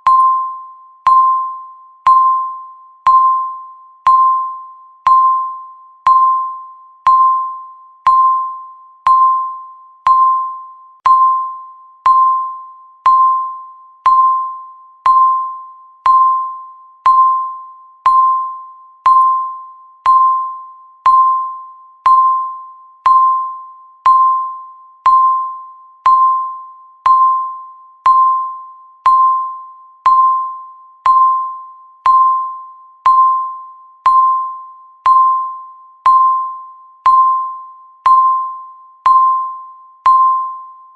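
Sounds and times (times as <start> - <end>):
countdown timer beeps: 0.0 - 40.9.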